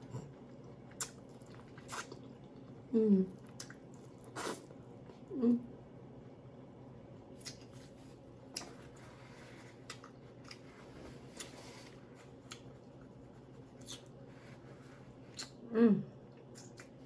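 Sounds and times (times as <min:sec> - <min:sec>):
soft chewing: 0:00.0 - 0:05.3, 0:07.3 - 0:17.0.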